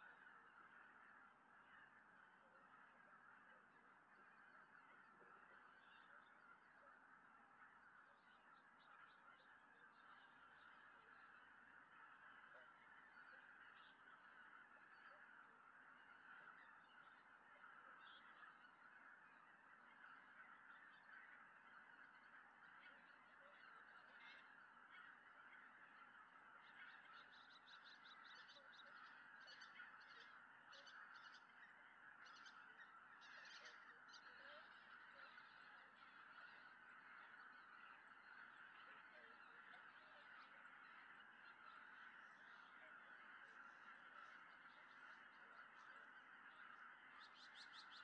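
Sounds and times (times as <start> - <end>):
geese honking in flight: 0.0 - 48.0.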